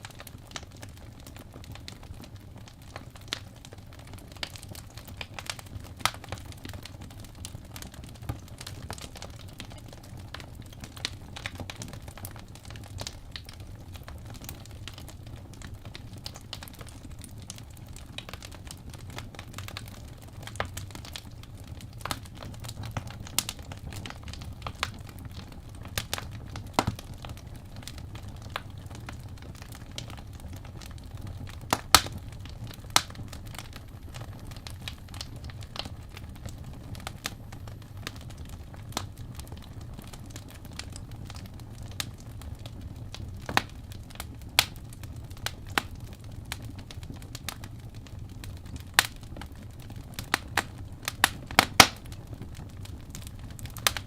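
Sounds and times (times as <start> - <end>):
fire popping: 0.0 - 54.0
low rumble of flames: 0.0 - 54.0
wood fire crackling: 0.0 - 54.0.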